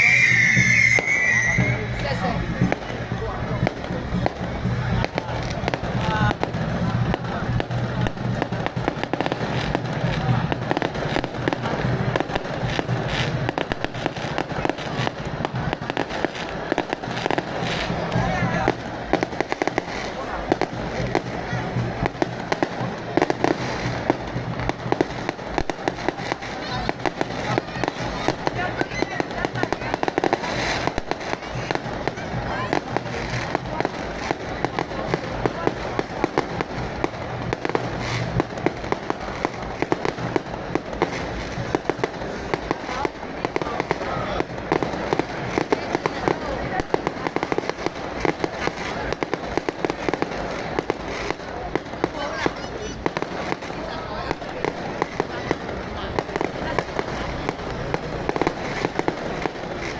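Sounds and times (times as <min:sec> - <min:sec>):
continuous crackling: 0:00.0 - 0:59.9
firecrackers and fireworks banging: 0:00.0 - 0:59.9.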